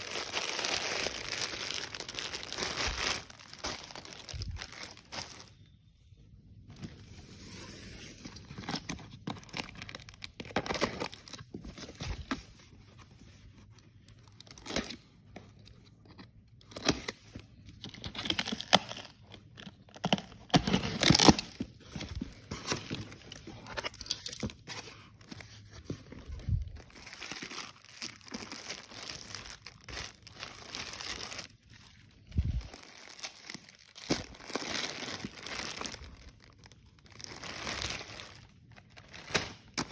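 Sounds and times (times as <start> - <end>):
packaging crinkling and tearing: 0.0 - 5.8, 8.2 - 12.4, 14.0 - 39.9.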